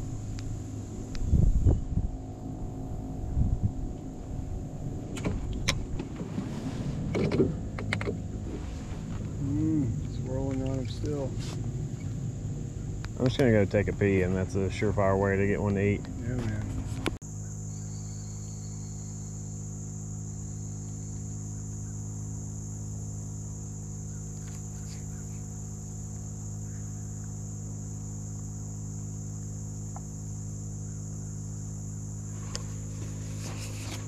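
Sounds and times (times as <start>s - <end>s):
insects buzzing: 0.0s - 34.0s
low hum: 0.0s - 34.0s.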